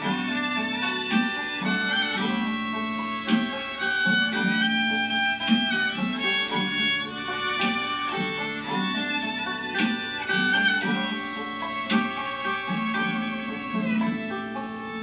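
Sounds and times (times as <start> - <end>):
fiddle melody: 0.0 - 15.0
rhythmic accompaniment: 0.0 - 15.0
strummed guitar: 0.0 - 15.0.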